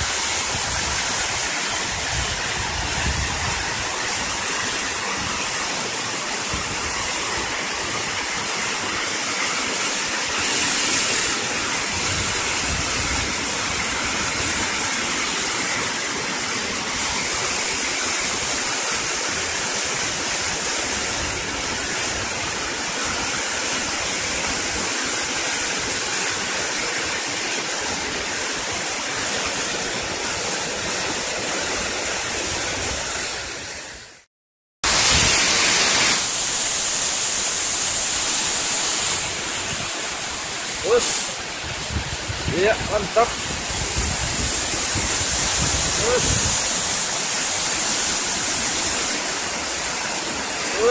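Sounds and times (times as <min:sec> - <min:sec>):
waterfall roar: 0:00.0 - 0:34.2, 0:34.9 - 0:50.9.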